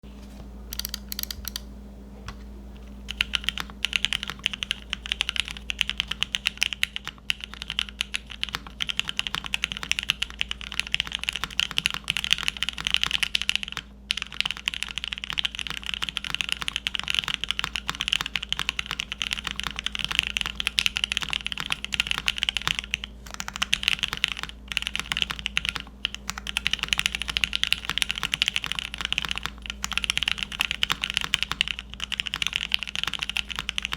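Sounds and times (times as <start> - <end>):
fast typing on mechanical keyboard: 0.7 - 1.6, 3.0 - 33.9.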